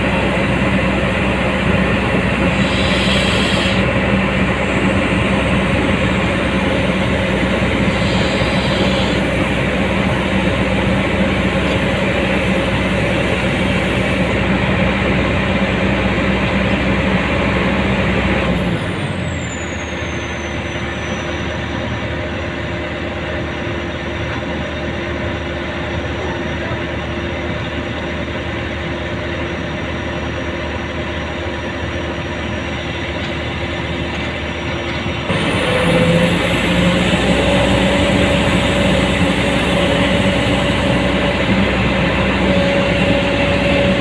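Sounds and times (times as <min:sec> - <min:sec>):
high whine: 0:00.0 - 0:18.5, 0:19.2 - 0:44.0
excavator diesel engine: 0:00.0 - 0:44.0.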